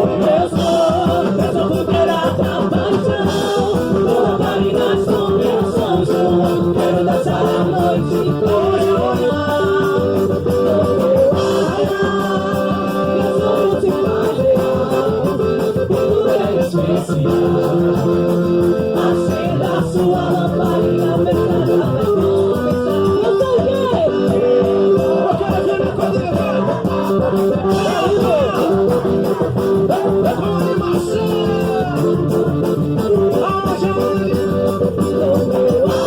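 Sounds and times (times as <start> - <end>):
band playing with singing: 0.0 - 36.0.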